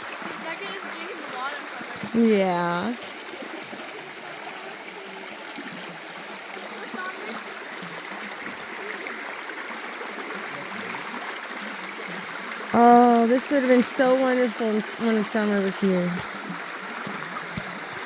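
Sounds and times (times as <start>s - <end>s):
water flowing over rocks: 0.0s - 18.0s.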